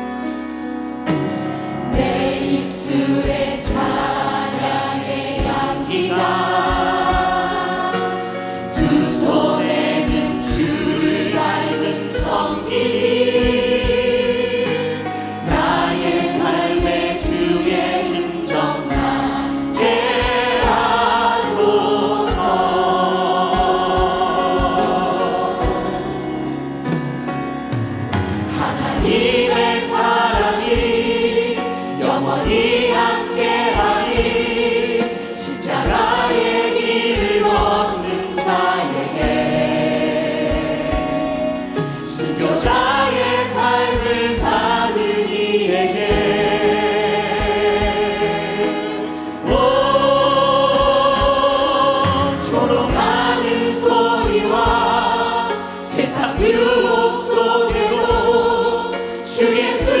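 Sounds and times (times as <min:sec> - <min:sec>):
choir singing a hymn: 0:00.0 - 1:00.0
instrumental accompaniment: 0:00.0 - 1:00.0
steady drum beat: 0:00.0 - 1:00.0.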